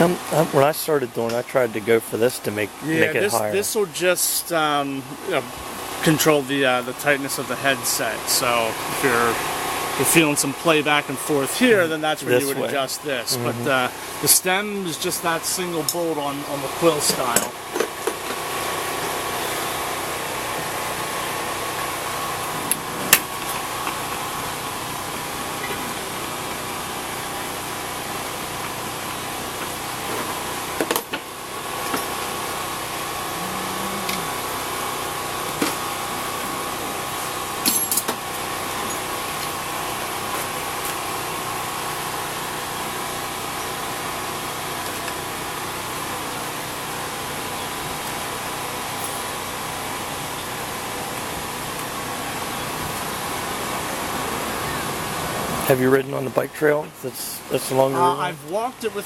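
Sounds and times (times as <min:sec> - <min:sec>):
engine-like mechanical hum: 0:00.0 - 0:59.0.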